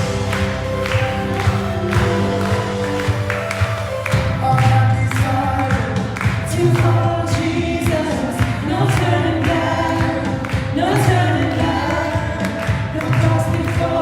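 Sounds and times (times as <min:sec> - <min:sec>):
band with drums and bass: 0:00.0 - 0:14.0
voices singing a worship song: 0:00.0 - 0:14.0.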